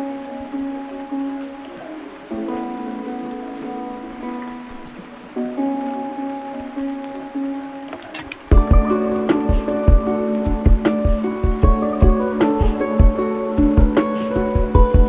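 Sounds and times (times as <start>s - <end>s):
plucked string chords: 0.0s - 15.0s.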